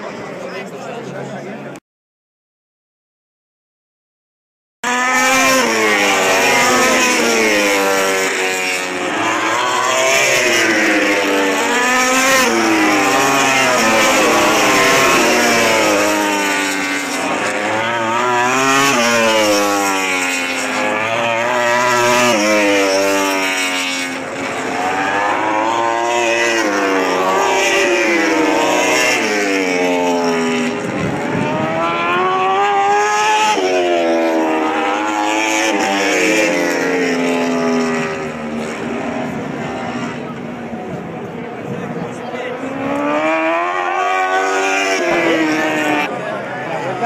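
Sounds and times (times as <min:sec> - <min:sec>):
racing motorcycles at full throttle: 0:04.8 - 0:47.0.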